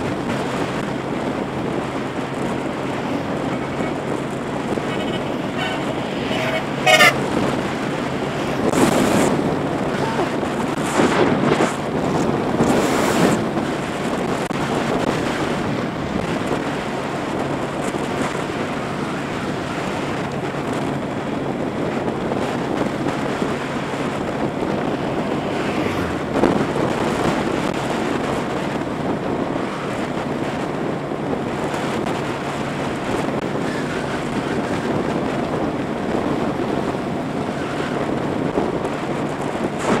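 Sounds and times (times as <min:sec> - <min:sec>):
motorbike engine hum: 0:00.0 - 0:40.0
wind buffeting microphone: 0:00.0 - 0:40.0.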